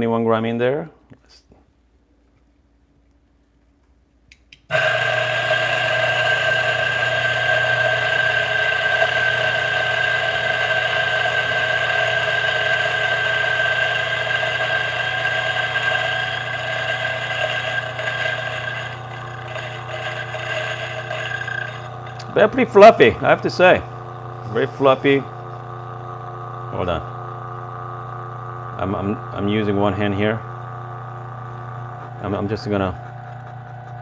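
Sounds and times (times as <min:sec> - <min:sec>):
electric coffee grinder whine: 0:04.7 - 0:34.0.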